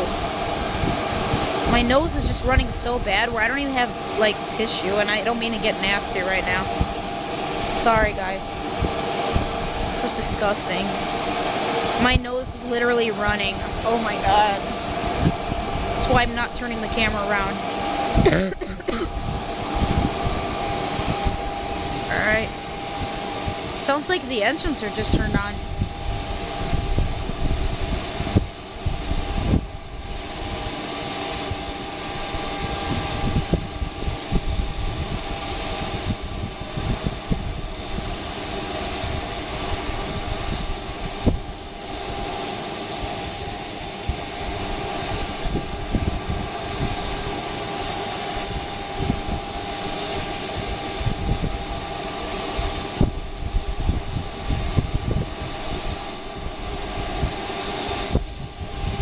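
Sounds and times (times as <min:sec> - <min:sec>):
jet engine idling: 0:00.0 - 0:59.0.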